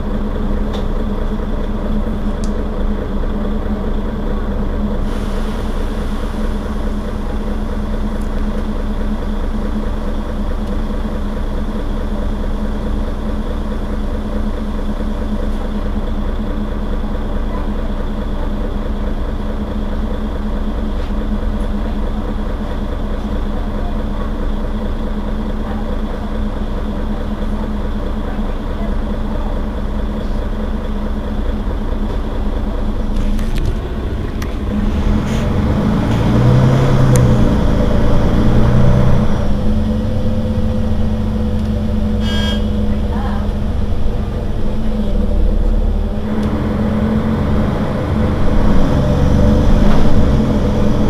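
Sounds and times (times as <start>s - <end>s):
bus engine idling: 0.0s - 51.0s.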